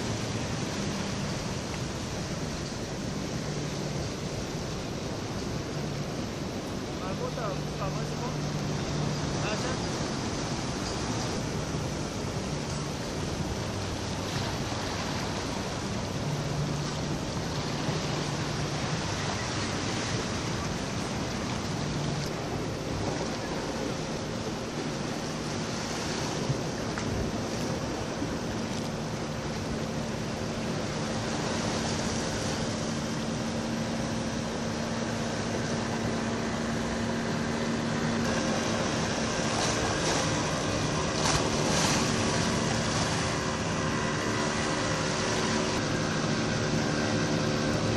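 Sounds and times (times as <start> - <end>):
outboard motor: 0.0 - 47.9
passing boat motors humming: 0.0 - 47.9
sea surf: 0.0 - 47.9
wind: 0.0 - 47.9.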